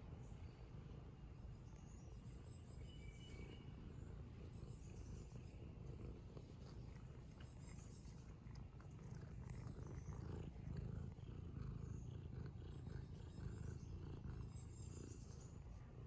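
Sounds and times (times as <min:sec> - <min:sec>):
cat purring: 0:02.2 - 0:16.0.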